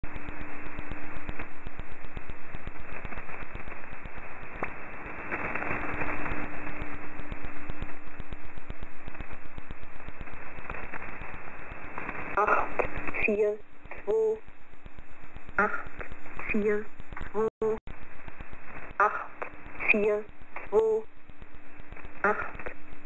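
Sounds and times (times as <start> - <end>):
radio static with crackles: 0.0 - 23.0.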